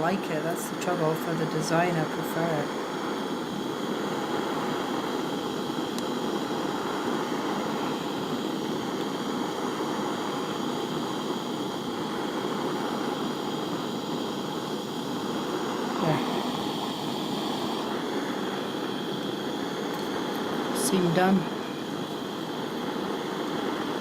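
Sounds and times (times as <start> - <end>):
gas torch flame burning: 0.0 - 24.0.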